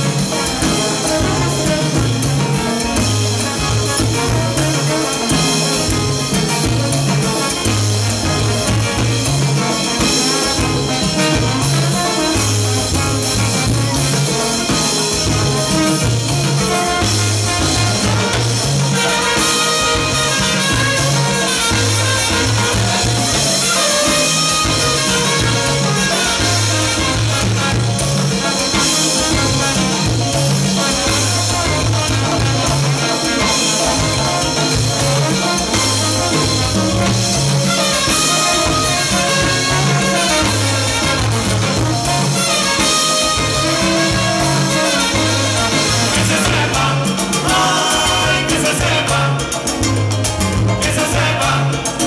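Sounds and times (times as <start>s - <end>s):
bouncing bass line: 0.0s - 52.0s
salsa band playing: 0.0s - 52.0s.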